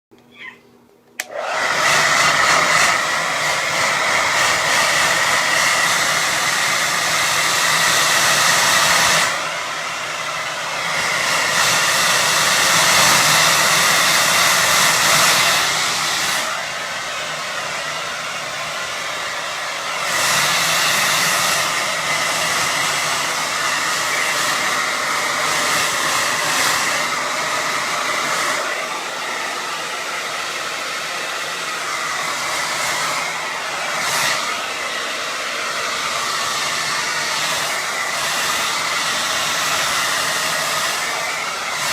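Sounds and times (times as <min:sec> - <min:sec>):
hair dryer blowing: 0:01.1 - 0:41.9.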